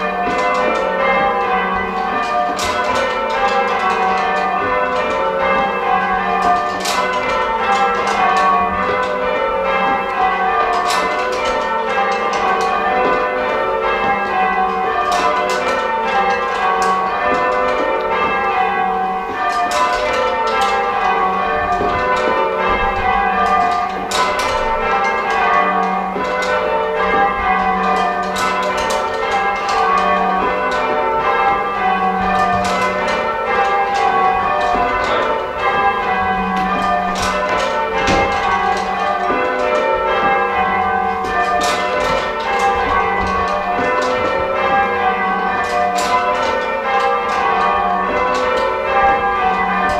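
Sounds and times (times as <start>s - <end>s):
church bells change ringing: 0.0s - 49.9s.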